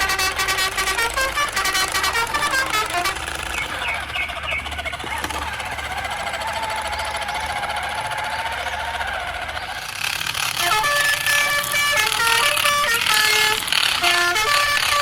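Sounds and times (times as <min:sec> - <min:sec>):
rapid mechanical motor rattle: 0:00.0 - 0:15.0
stepped horn-like tones: 0:00.0 - 0:15.0.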